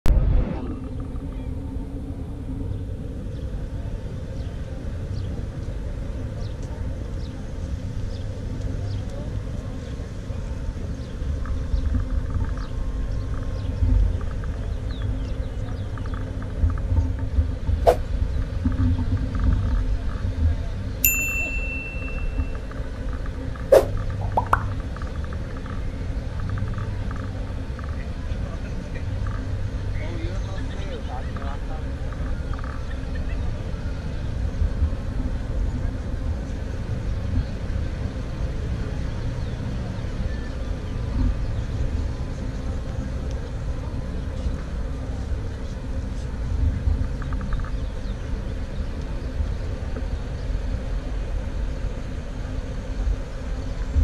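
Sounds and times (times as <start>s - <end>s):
traffic rumble: 0.1s - 54.0s.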